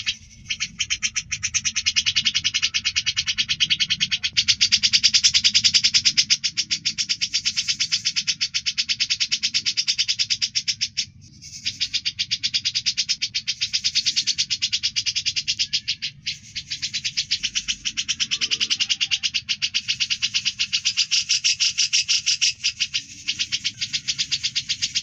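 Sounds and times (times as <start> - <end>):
songbird rasping trill: 0.0 - 25.0.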